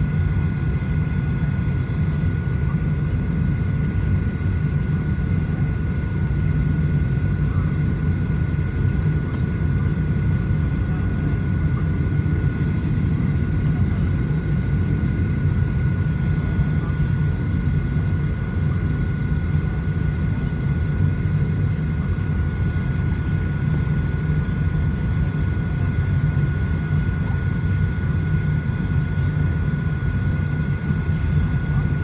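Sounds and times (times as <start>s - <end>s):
airliner cabin low rumble: 0.0s - 32.0s.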